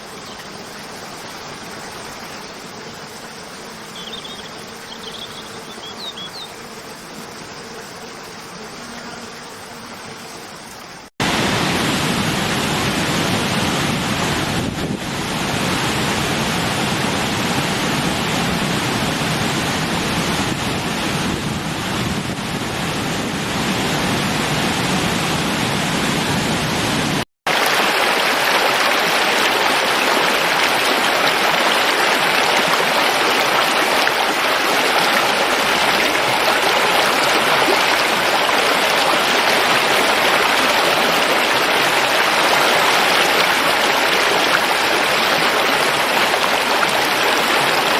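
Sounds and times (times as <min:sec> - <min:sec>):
rushing water: 0:00.0 - 0:08.8, 0:09.5 - 0:47.9.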